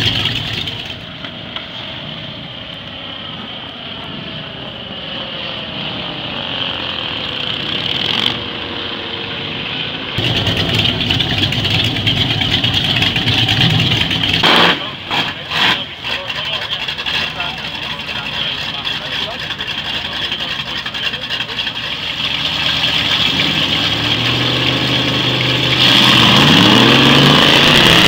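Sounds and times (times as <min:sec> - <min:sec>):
hot rod engines idling: 0:00.0 - 0:25.9
propeller aircraft engine droning: 0:00.0 - 0:28.0.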